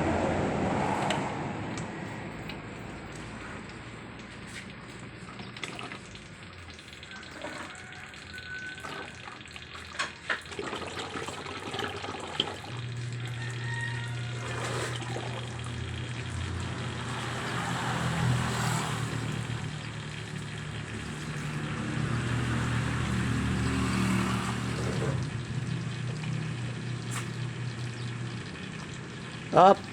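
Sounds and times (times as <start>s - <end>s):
oil pouring and splashing: 1.0s - 29.9s.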